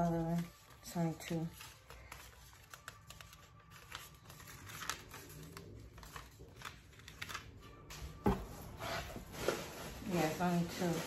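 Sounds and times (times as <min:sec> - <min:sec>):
paper and packaging rustling: 0:00.0 - 0:11.0.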